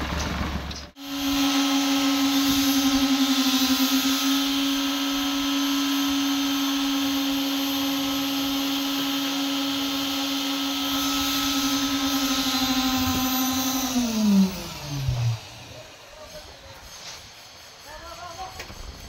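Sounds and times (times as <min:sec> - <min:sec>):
vibrator motor humming: 0:01.0 - 0:16.9.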